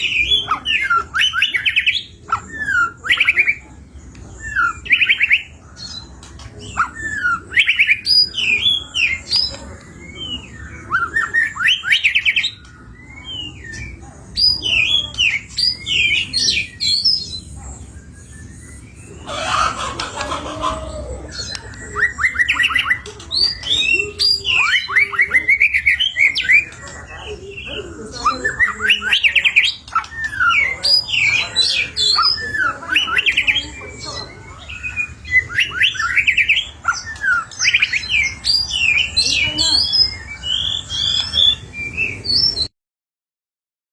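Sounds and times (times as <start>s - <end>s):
songbird singing varied phrases: 0.0s - 42.7s.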